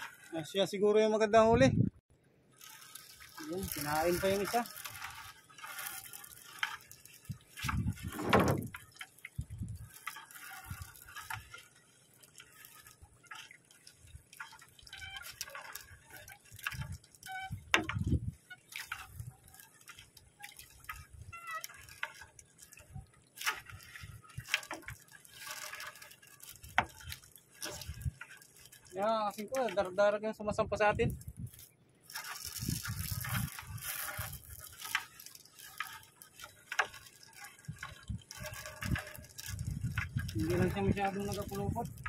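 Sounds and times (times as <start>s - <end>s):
water dripping and splashing: 0.0s - 0.6s, 2.5s - 30.2s, 31.0s - 42.0s
wet net being hauled: 0.0s - 1.2s, 2.4s - 42.0s.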